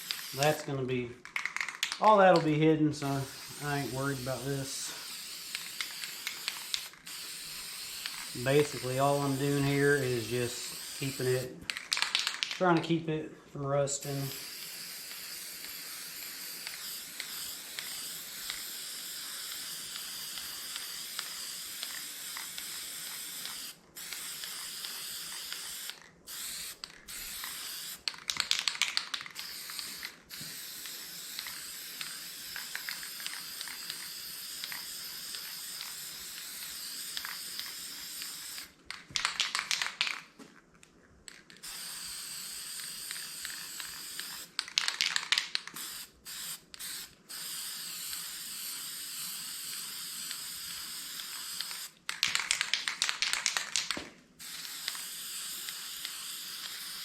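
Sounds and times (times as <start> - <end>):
spray can hissing: 0.0 - 12.8, 13.9 - 40.2, 41.6 - 57.0
spray can ball rattling: 0.0 - 12.9, 14.0 - 40.4, 41.3 - 57.0.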